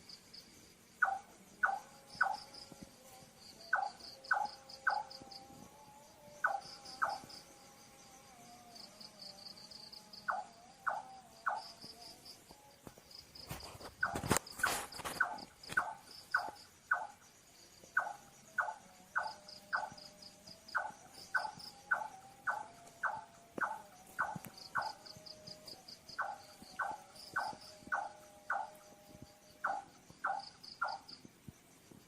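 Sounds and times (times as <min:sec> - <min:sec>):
crickets trilling: 0:00.0 - 0:32.0
night bird calling: 0:01.0 - 0:02.8, 0:03.6 - 0:07.5, 0:09.0 - 0:17.3, 0:17.9 - 0:31.3.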